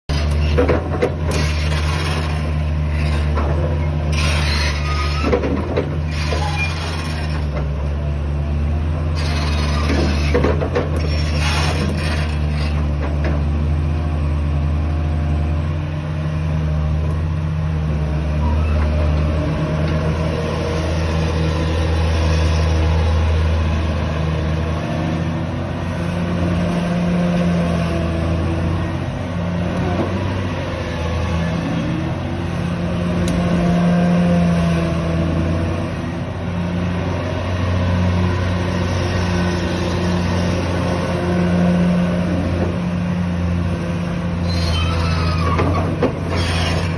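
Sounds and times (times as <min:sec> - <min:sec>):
excavator diesel engine droning: 0:00.1 - 0:46.9.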